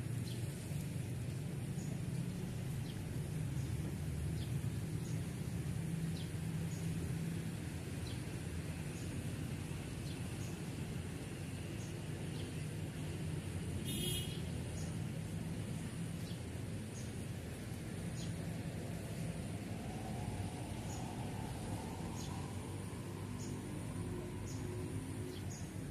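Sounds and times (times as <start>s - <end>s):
small birds chirping: 1.7s - 25.9s.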